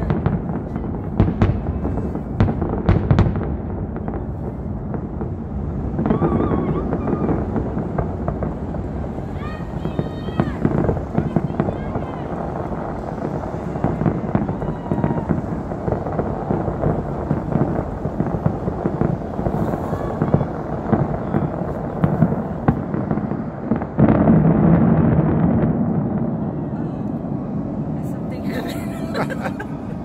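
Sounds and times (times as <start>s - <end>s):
fireworks bangs and pops: 0.0s - 30.0s.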